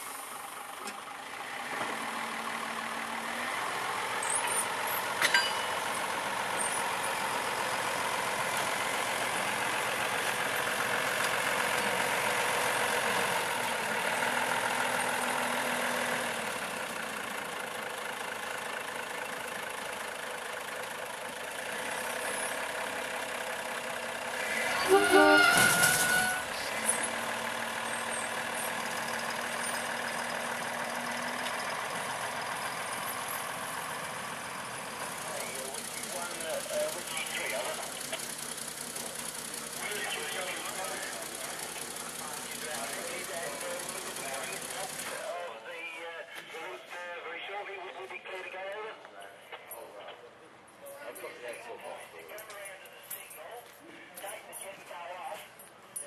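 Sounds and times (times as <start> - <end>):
diesel locomotive running: 0.0 - 45.8.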